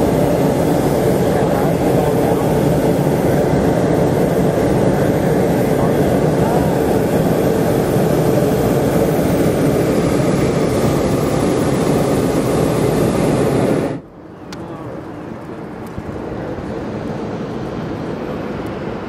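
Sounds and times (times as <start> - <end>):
propane burner roaring: 0.0 - 19.0.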